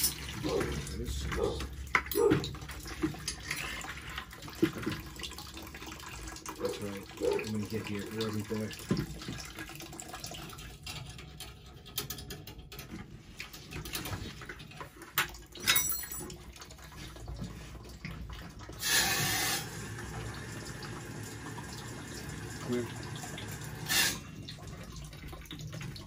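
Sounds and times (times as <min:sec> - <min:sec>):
water draining into bucket: 0:00.0 - 0:26.0.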